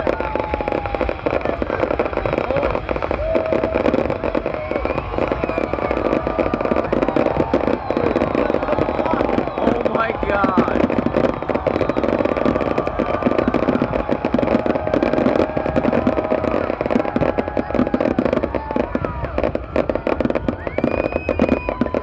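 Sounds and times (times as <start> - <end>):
fireworks crackling and popping: 0.0 - 22.0
whistling rockets: 0.0 - 22.0.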